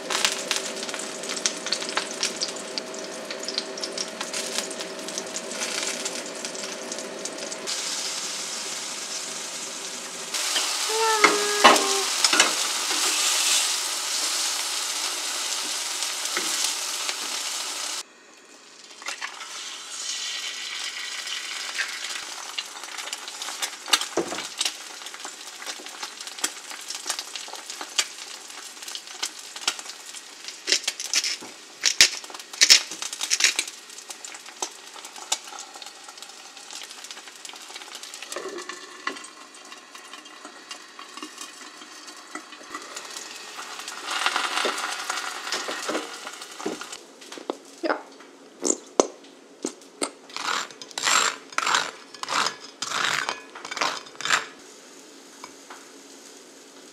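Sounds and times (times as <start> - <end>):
egg crackling in pan: 0.0 - 47.8, 48.6 - 56.9
food sizzling in frying pan: 0.0 - 56.9.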